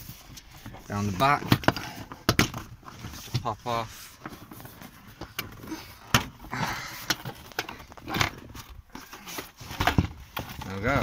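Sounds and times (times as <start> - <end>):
plastic scraping: 0.0 - 11.0.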